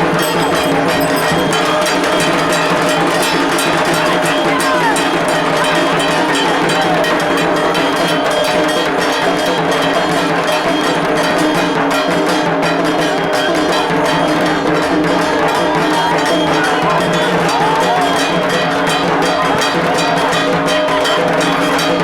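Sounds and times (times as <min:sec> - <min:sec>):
fast drumming: 0:00.0 - 0:22.0
metal bells ringing: 0:00.0 - 0:22.0.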